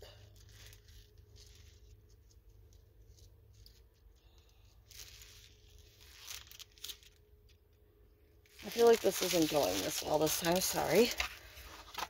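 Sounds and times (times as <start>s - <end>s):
plastic pack crinkling: 0.2s - 7.6s, 8.4s - 12.0s.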